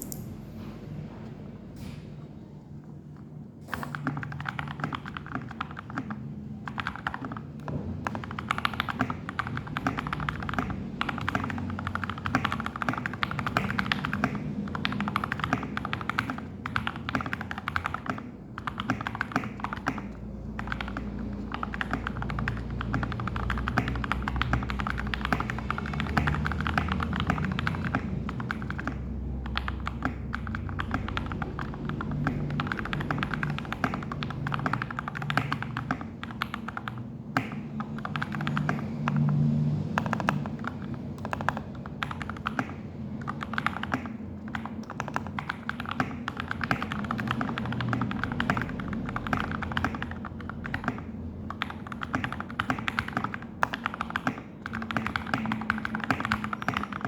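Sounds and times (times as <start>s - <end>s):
fast typing on mechanical keyboard: 3.7s - 57.0s.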